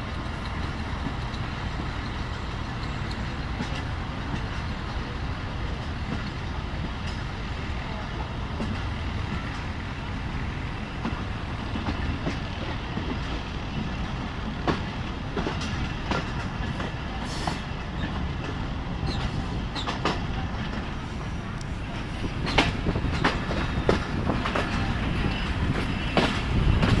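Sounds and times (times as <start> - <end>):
train rumbling: 0.0 - 27.0
wheels clacking on rails: 0.0 - 27.0.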